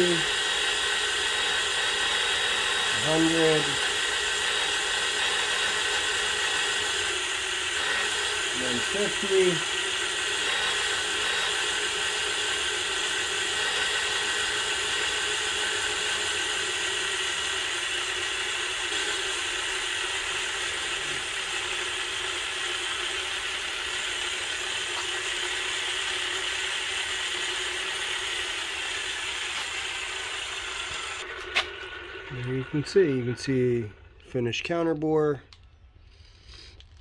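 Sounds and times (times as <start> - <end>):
boring bar whirring: 0.0 - 34.4.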